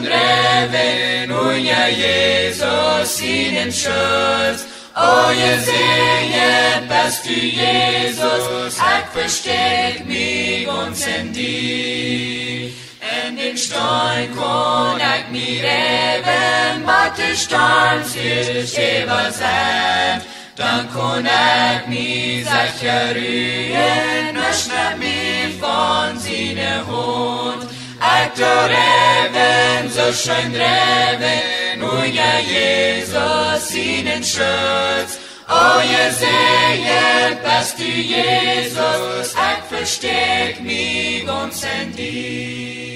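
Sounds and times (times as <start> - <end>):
group singing a hymn: 0.0 - 42.9.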